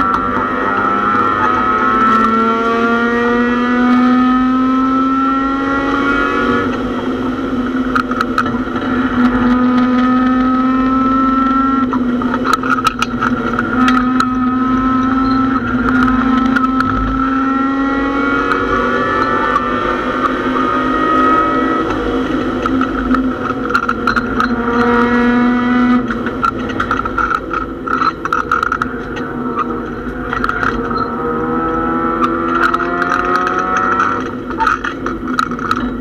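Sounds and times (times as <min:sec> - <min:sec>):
car rattles and clicks: 0:00.0 - 0:36.0
race car engine running hard: 0:00.0 - 0:36.0.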